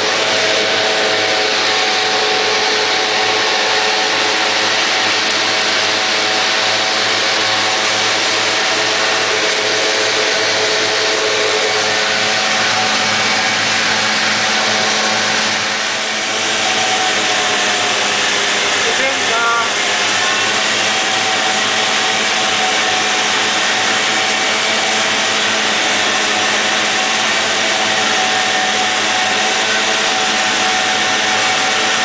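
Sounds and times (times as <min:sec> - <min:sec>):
tractor diesel engine drone: 0:00.0 - 0:32.0.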